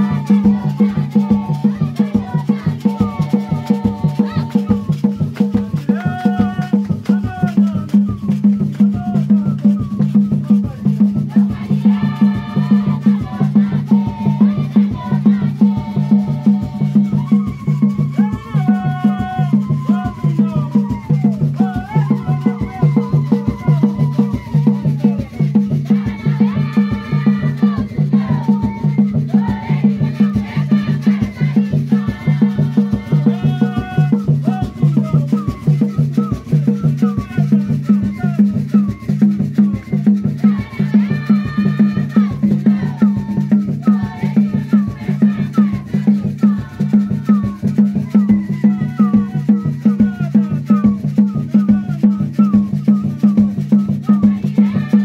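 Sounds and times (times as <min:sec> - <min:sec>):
group singing a church song: 0:00.0 - 0:55.0
steady percussion beat: 0:00.0 - 0:55.0.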